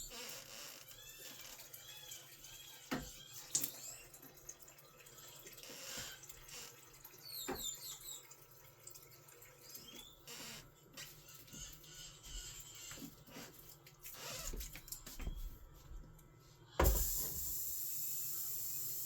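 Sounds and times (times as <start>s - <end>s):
water running faintly: 0.0s - 19.0s.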